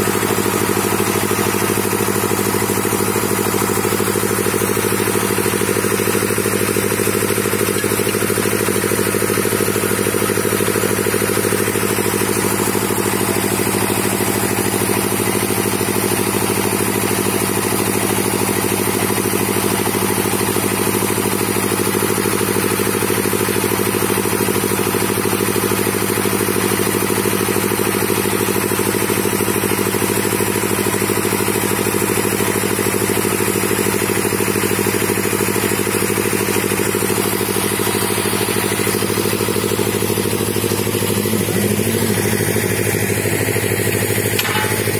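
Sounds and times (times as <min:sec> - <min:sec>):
stationary engine running steadily: 0:00.0 - 0:44.9.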